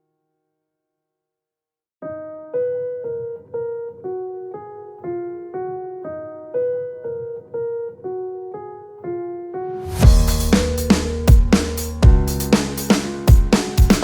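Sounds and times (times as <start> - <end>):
piano-like keyboard notes: 2.0 - 14.0.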